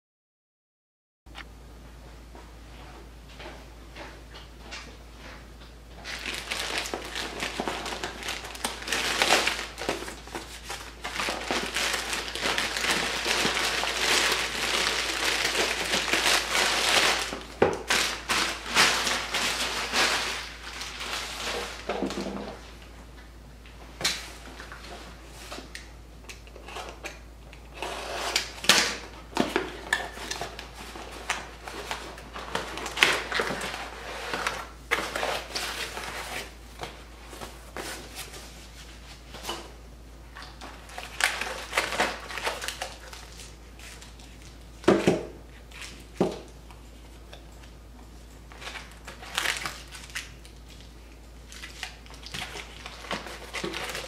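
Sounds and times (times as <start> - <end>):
packing materials rustling and crinkling: 6.0 - 22.9, 27.7 - 54.0.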